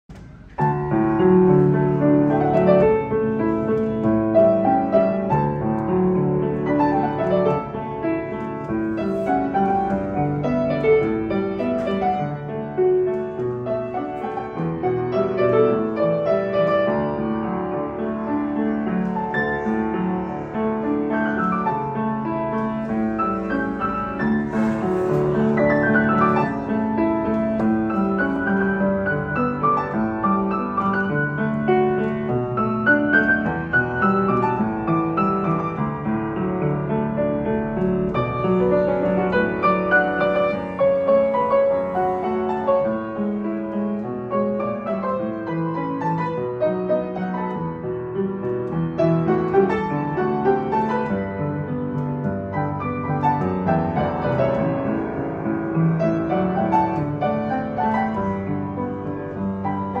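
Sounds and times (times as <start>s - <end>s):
upright piano playing: 0.0s - 60.0s.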